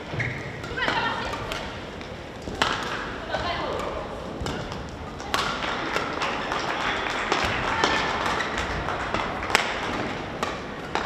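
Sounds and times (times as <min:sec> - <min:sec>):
sports hall background noise: 0:00.0 - 0:11.0
racquets hitting shuttlecock: 0:00.6 - 0:11.0.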